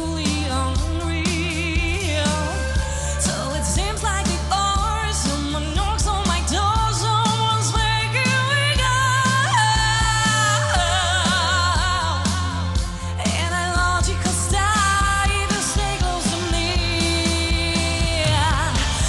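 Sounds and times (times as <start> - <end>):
bass guitar: 0.0 - 19.0
drums: 0.0 - 19.0
person singing lead vocal: 0.0 - 19.0.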